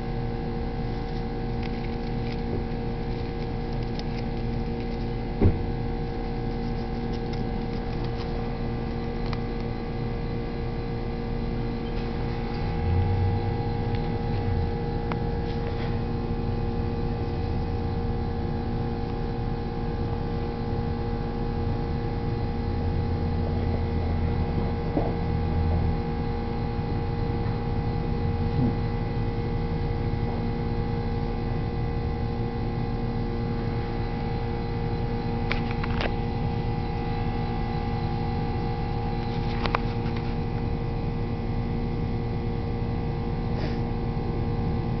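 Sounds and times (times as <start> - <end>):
machine hum with low rumble: 0.0 - 45.0.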